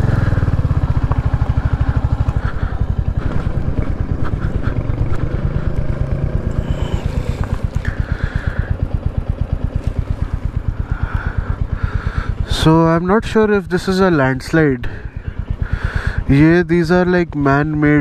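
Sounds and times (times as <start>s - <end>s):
motorcycle engine riding: 0.0s - 18.0s.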